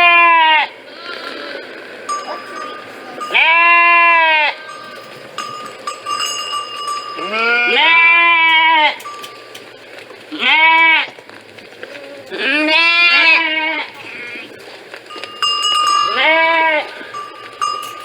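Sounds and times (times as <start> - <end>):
sheep bleating: 0.0 - 18.0.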